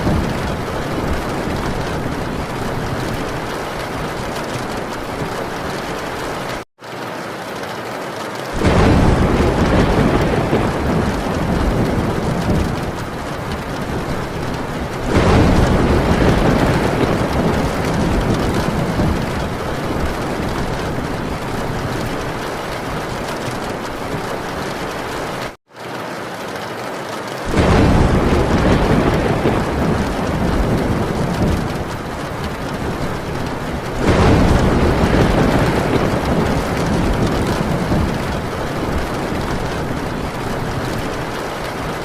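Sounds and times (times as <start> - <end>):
thunder rumbling: 0.0 - 6.6, 8.6 - 25.6, 27.5 - 42.0
heavy rain on tin roof: 0.0 - 42.0.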